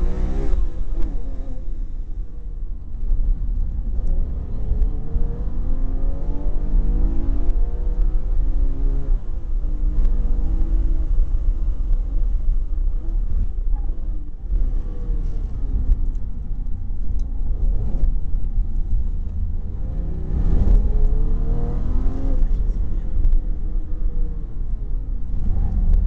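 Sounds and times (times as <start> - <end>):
car engine revving: 0.0 - 26.0
road and wind noise: 0.0 - 26.0.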